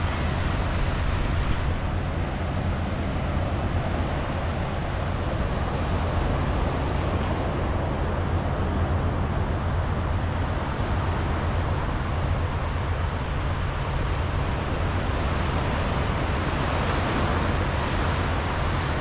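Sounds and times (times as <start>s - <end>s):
waves breaking on a beach: 0.0s - 19.0s
wind rumbling on microphone: 0.0s - 19.0s.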